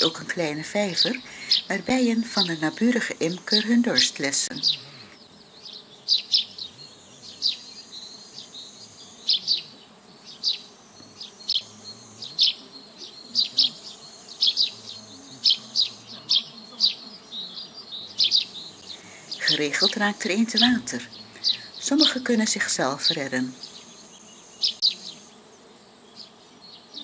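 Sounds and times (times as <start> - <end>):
bees buzzing faintly: 0.0 - 27.0.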